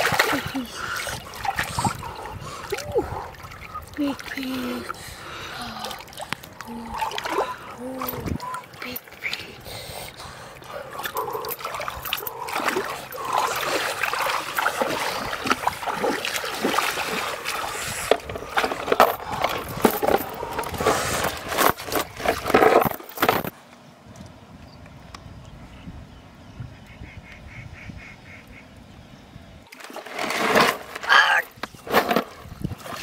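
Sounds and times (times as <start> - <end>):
water splashing and sloshing: 0.0 - 23.6, 29.6 - 33.0.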